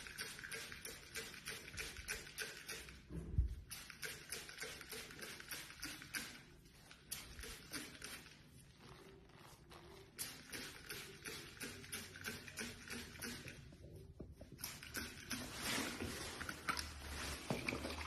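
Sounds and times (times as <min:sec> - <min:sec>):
spray bottle squirts: 0:00.0 - 0:09.1, 0:09.8 - 0:13.7, 0:14.6 - 0:18.0.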